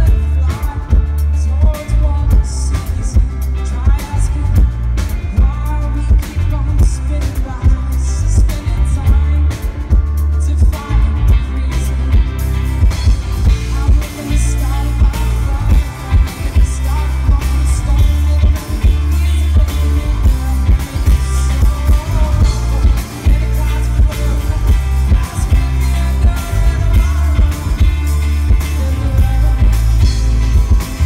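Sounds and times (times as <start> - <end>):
drum kit: 0.0 - 31.0
electric bass: 0.0 - 31.0
electric guitar: 0.0 - 31.0.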